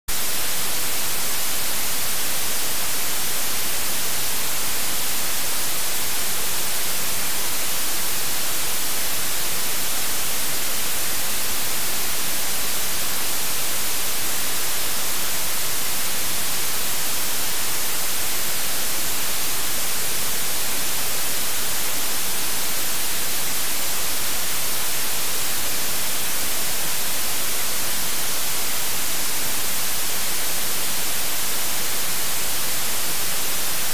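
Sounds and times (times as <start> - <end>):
static hiss: 0.1 - 33.9.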